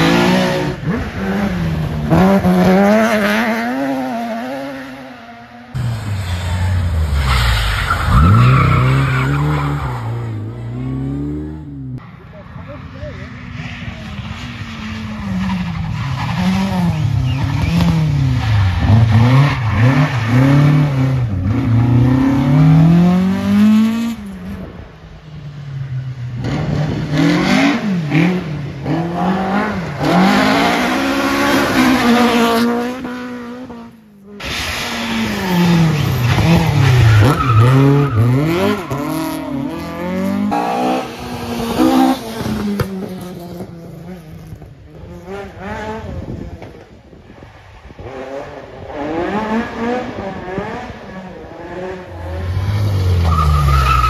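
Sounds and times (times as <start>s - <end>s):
rally car engines revving: 0.0s - 24.9s, 26.3s - 54.0s.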